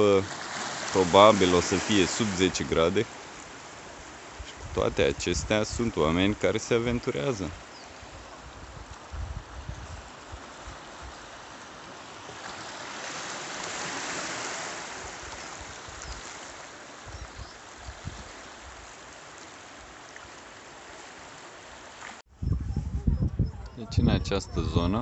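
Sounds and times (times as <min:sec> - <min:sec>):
surf washing over pebbles: 0:00.0 - 0:22.2.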